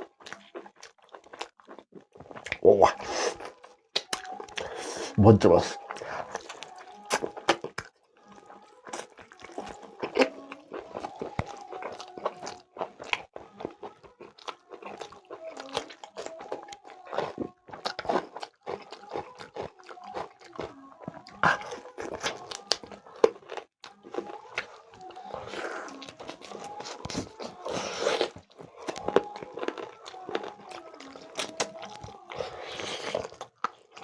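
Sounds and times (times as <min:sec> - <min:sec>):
close chewing and biting: 0:00.0 - 0:34.0.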